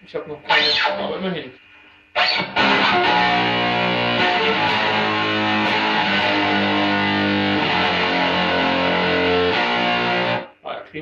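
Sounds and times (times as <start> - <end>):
distorted electric guitar chords: 0.5 - 1.2, 2.1 - 10.5.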